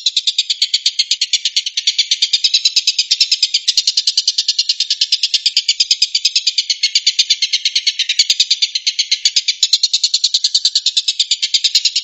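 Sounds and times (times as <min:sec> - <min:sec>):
bird rattling trill call: 0:00.0 - 0:12.0.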